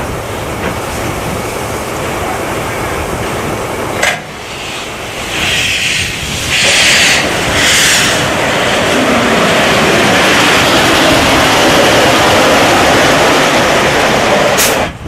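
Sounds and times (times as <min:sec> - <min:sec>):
steam hissing: 0:01.9 - 0:15.0.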